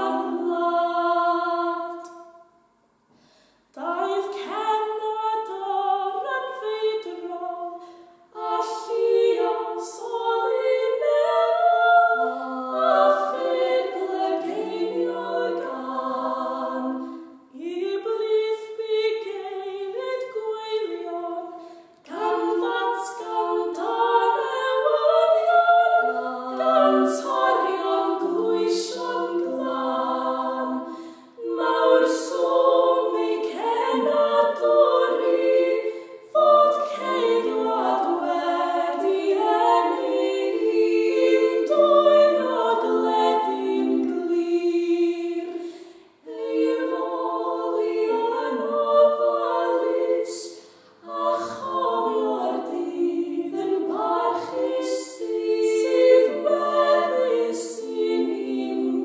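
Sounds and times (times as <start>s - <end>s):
women singing in harmony: 0.0s - 2.6s, 3.8s - 59.0s.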